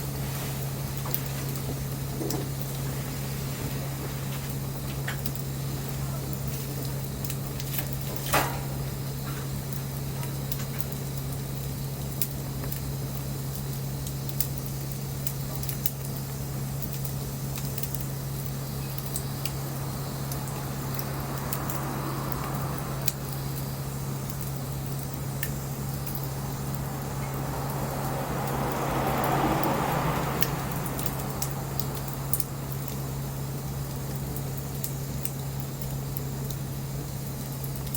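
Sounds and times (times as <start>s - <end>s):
bonfire crackling and hissing: 0.0s - 37.9s
sharp pops of fire: 0.0s - 37.9s
steady low hum: 0.0s - 37.9s.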